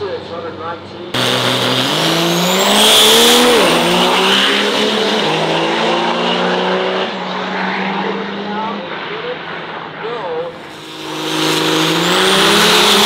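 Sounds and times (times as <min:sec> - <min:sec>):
race engine at full throttle: 0:00.0 - 0:13.0.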